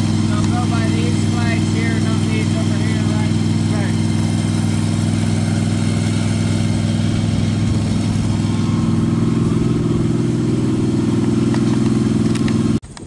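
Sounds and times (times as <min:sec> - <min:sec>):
machine engine running steadily: 0:00.0 - 0:13.0.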